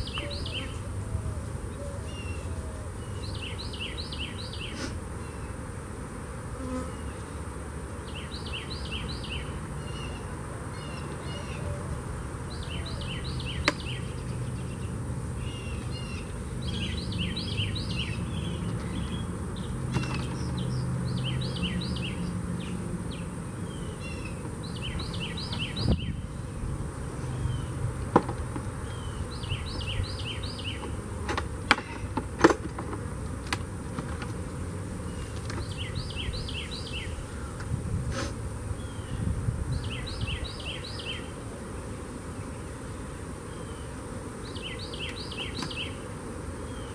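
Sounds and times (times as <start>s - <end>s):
bees buzzing: 0.0s - 46.9s.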